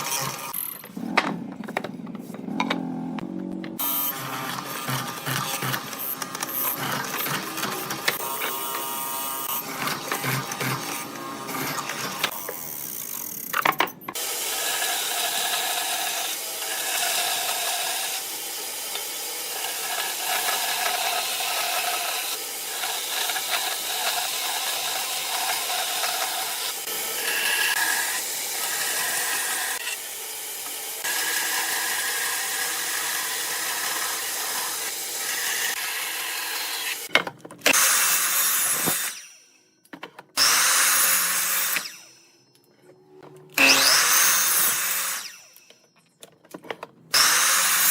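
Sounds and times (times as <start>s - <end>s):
power tool running on wood: 0.0s - 13.2s, 14.1s - 39.3s, 43.6s - 45.6s, 47.1s - 47.9s.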